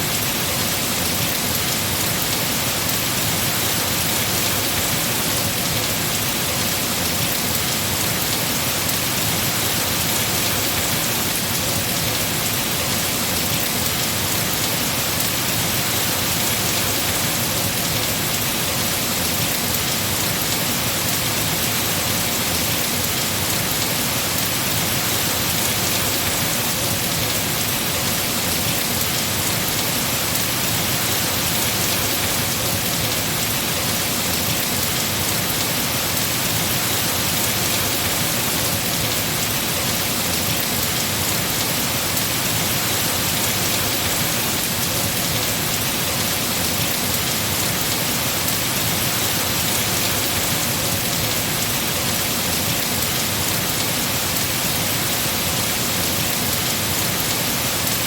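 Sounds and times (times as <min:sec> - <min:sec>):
heavy rain falling on trees: 0:00.0 - 0:58.0.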